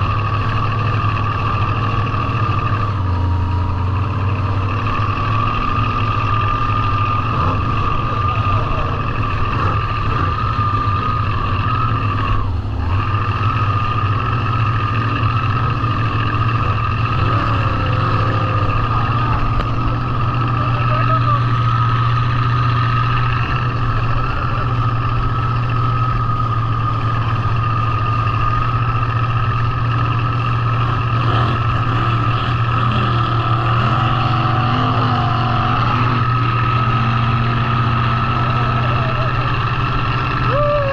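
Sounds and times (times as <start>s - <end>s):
motorboat engine running: 0.0s - 40.9s.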